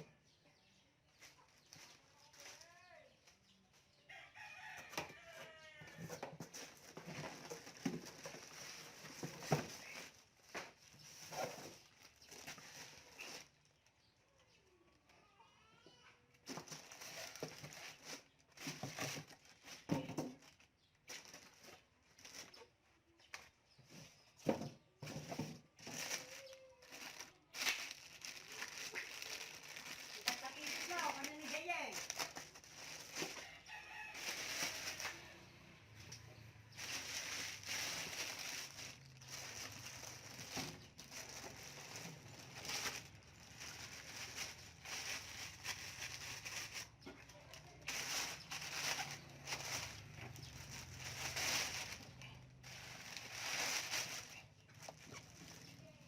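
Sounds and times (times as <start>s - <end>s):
packaging rustling and scraping: 4.4s - 13.7s, 16.4s - 22.7s, 23.3s - 56.0s.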